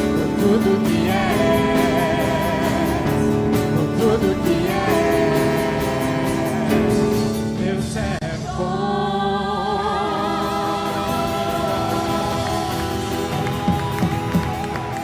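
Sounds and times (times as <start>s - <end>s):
singers holding vibrato notes: 0.0s - 15.0s
worship band playing: 0.0s - 15.0s.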